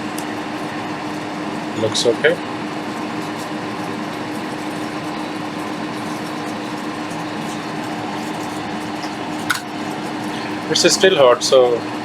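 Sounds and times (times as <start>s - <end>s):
fan whirring: 0.0s - 12.0s.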